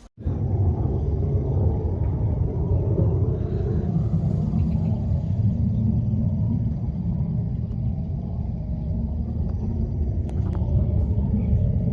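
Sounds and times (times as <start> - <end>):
wind buffeting microphone: 0.2 - 11.9.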